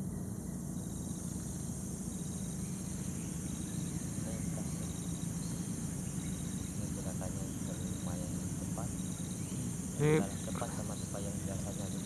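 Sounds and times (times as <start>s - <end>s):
insects chorus: 0.0s - 12.0s
low steady rumble: 0.0s - 12.0s
short insect chirp: 0.0s - 12.0s.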